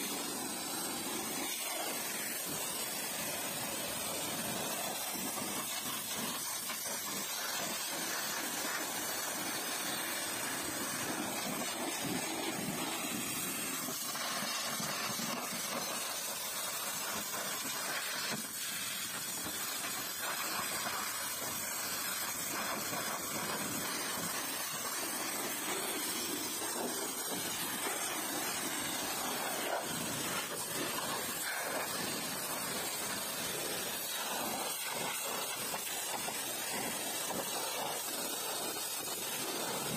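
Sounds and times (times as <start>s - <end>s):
pressure washer spraying metal: 0.0s - 39.9s.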